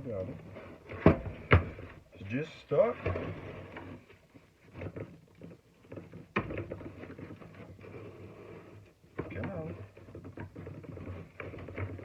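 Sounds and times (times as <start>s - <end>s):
plastic scraping and creaking: 0.0s - 12.0s.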